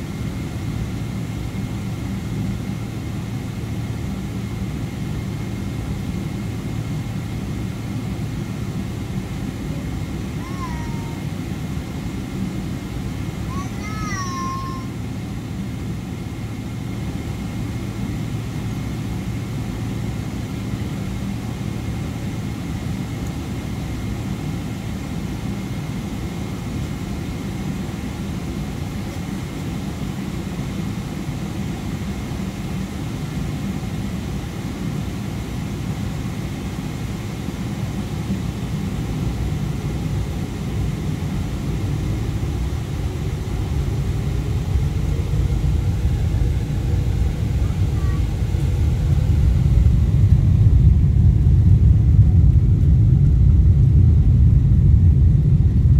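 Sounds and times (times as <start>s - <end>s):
jet engines rumbling in cabin: 0.0s - 55.9s.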